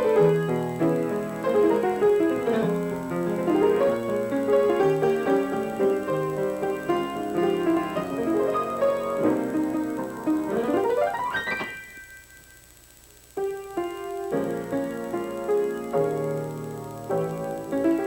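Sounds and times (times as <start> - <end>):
piano playing: 0.0 - 12.3, 13.4 - 18.0.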